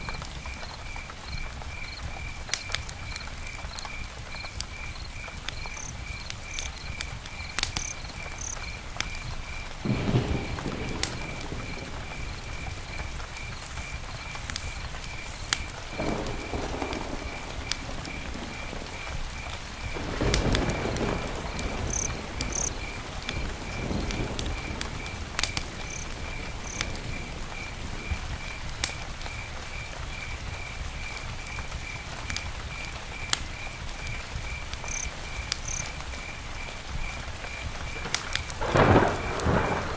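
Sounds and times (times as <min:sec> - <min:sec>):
campfire crackling: 0:00.0 - 0:39.9
cricket chirping: 0:00.0 - 0:39.9.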